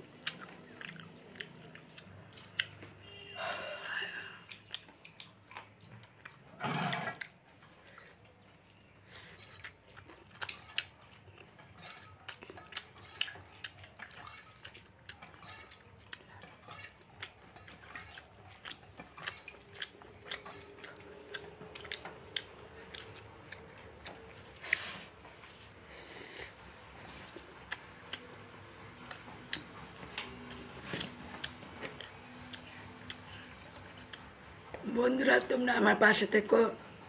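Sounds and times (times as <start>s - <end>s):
person chewing food: 0.0s - 34.8s.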